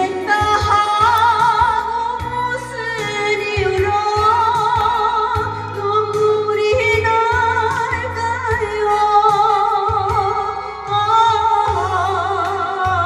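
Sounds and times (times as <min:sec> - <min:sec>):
woman singing ballad with vibrato: 0:00.0 - 0:13.0.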